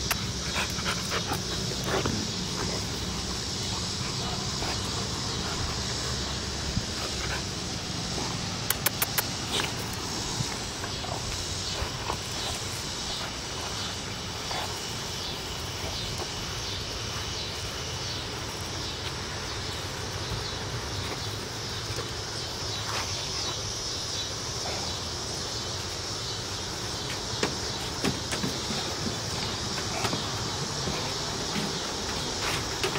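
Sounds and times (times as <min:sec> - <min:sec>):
insect chorus: 0:00.0 - 0:32.9.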